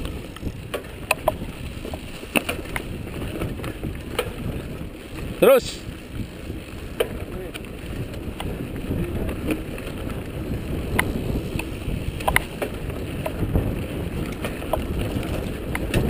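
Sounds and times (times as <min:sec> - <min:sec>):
bike clicking and rattling: 0:00.0 - 0:16.0
bike tyres rumbling: 0:00.0 - 0:16.0
wind on microphone: 0:00.0 - 0:16.0.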